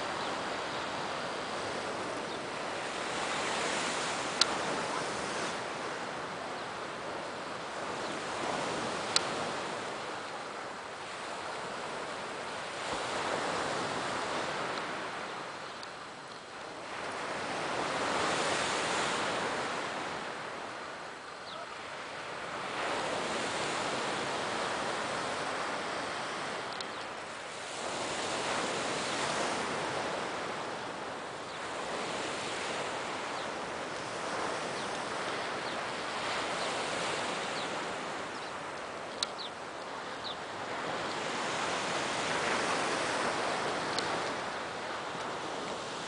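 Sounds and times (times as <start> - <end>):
sea waves washing on beach: 0.0 - 46.0.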